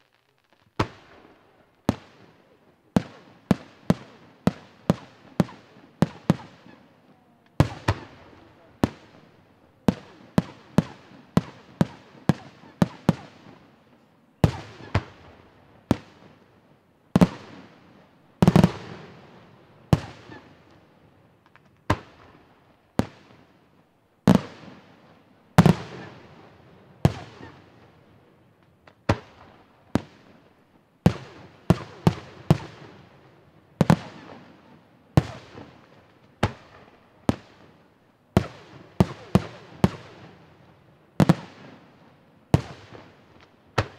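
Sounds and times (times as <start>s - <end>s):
fireworks bursting with echo: 0.0s - 43.9s.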